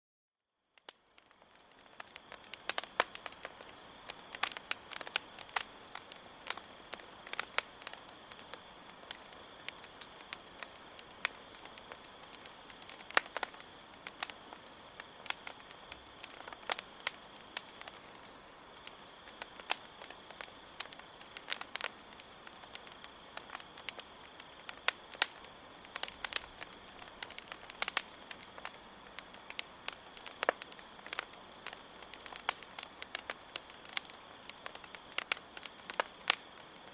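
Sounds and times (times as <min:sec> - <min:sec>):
campfire crackling and popping: 0:00.6 - 0:36.9
crickets chirring: 0:01.1 - 0:36.9.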